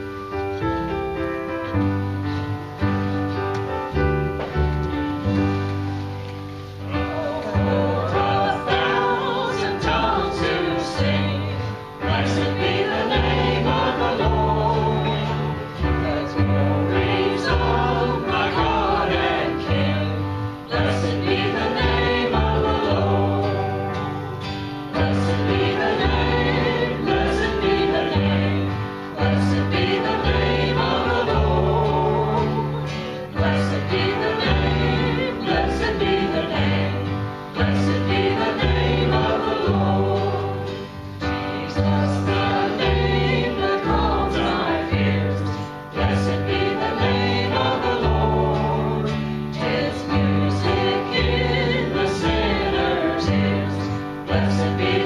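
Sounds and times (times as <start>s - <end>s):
congregation singing a hymn: 0.0s - 55.0s
piano accompaniment: 0.0s - 55.0s.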